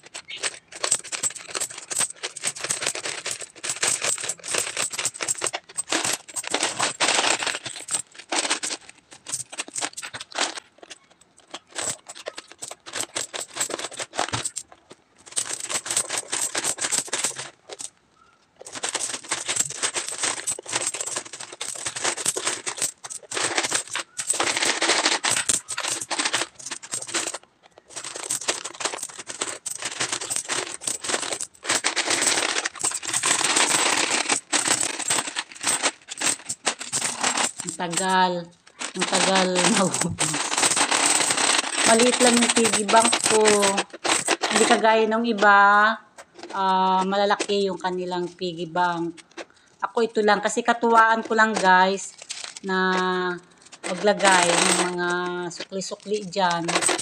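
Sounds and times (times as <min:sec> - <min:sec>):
coins clinking and jingling: 0:00.0 - 0:45.6, 0:50.4 - 0:57.0.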